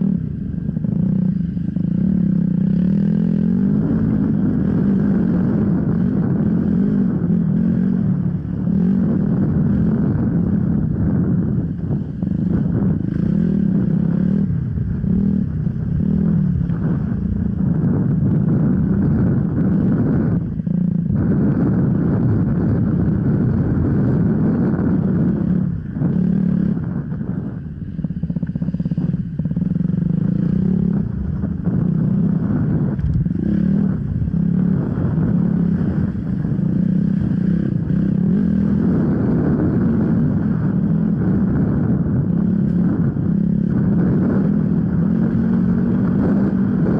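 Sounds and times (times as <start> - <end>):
motorcycle engine revving hard: 0.0 - 46.9.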